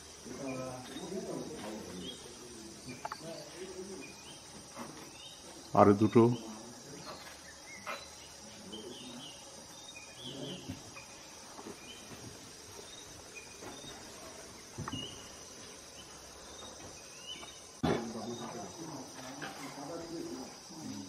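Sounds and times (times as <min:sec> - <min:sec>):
crickets and insects chorus: 0:00.0 - 0:21.0.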